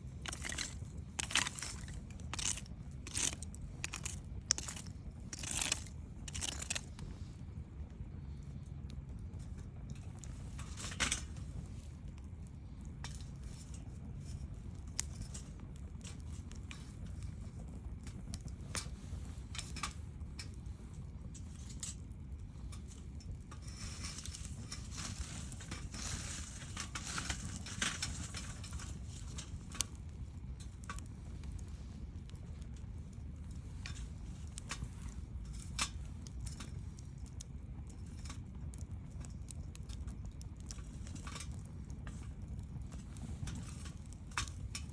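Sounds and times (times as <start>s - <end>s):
campfire crackling and popping: 0.0s - 44.9s
steady low rumble: 0.0s - 44.9s.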